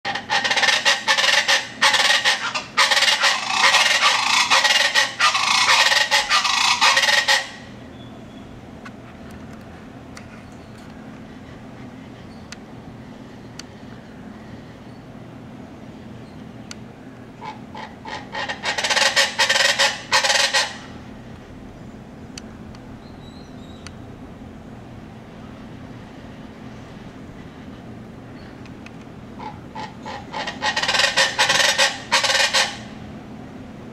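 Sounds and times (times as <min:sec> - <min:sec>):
birds calling harshly: 0:00.1 - 0:08.8, 0:09.7 - 0:24.8, 0:26.3 - 0:33.1
low steady hum: 0:00.1 - 0:33.9.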